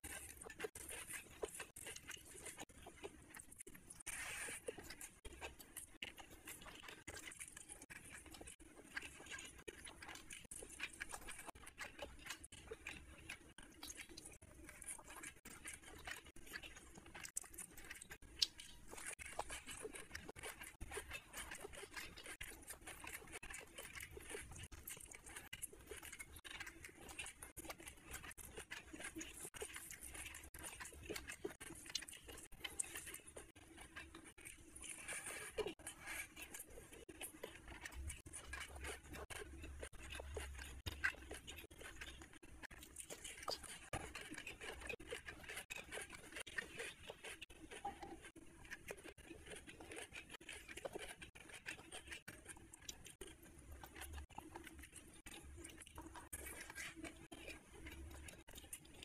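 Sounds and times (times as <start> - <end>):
wet chewing and lip smacks: 0.0 - 59.0.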